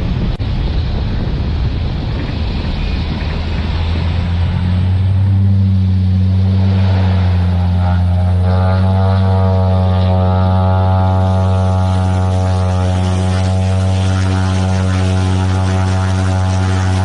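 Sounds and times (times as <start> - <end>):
propeller engine rushing and droning: 0.0 - 17.0.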